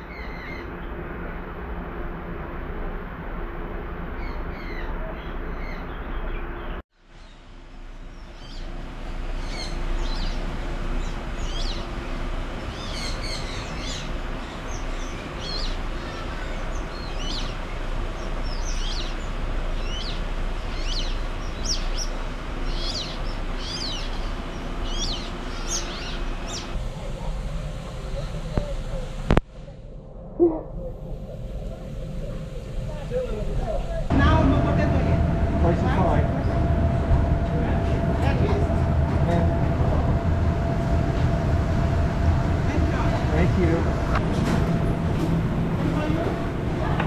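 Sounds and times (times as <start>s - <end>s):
birds chirping: 0.0s - 1.4s, 4.1s - 29.3s, 30.8s - 47.0s.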